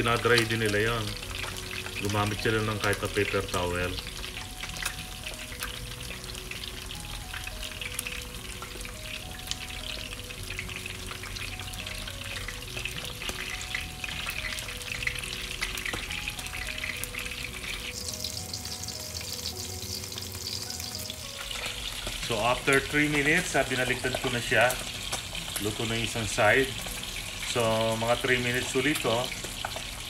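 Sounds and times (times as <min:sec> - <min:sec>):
fish sizzling in hot oil: 0:00.0 - 0:30.0
soft slow melody: 0:00.0 - 0:30.0.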